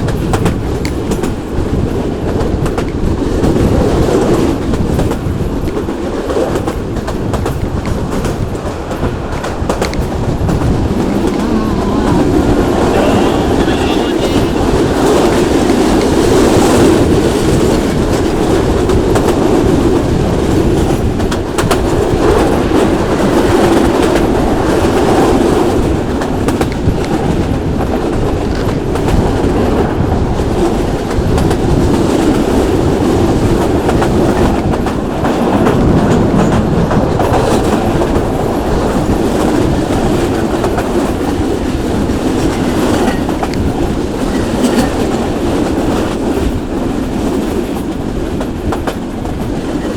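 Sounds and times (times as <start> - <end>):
train rumbling along track: 0.0 - 49.9.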